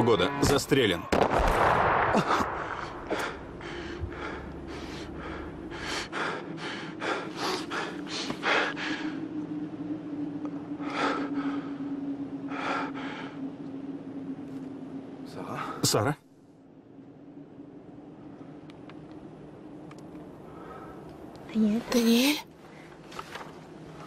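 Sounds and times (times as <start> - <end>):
low steady drone: 0.0 - 24.0.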